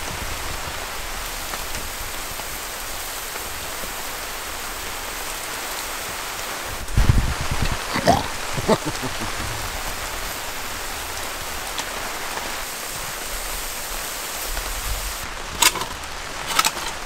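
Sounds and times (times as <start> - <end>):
rain pattering on a tarp: 0.0 - 17.0.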